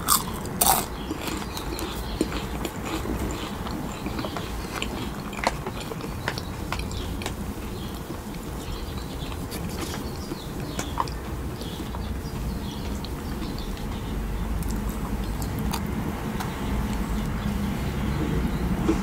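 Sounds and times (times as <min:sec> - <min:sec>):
chewing soft sweets: 0:00.0 - 0:19.0.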